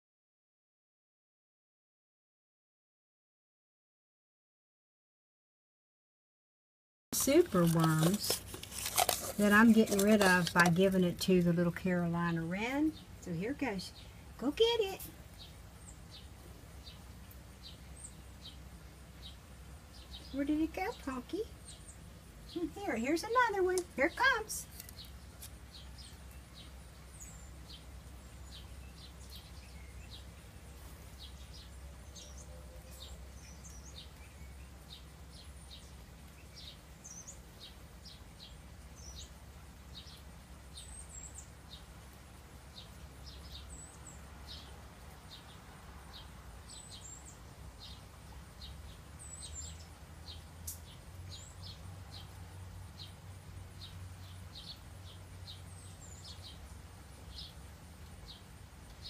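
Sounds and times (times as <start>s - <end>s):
small birds chirping: 7.2s - 59.0s.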